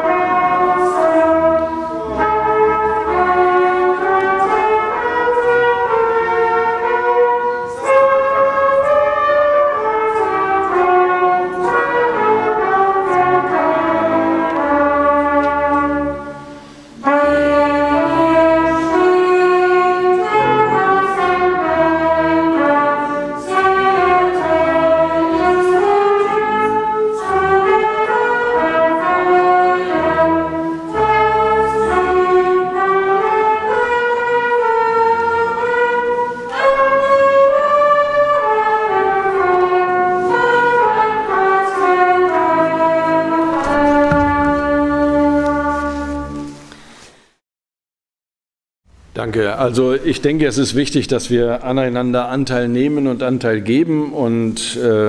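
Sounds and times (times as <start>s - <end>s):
slow instrumental church music: 0.0s - 47.4s.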